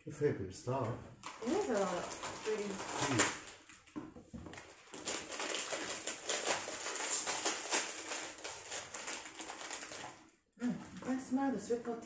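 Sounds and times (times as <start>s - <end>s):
plastic snack wrapper crinkling: 1.2s - 11.1s.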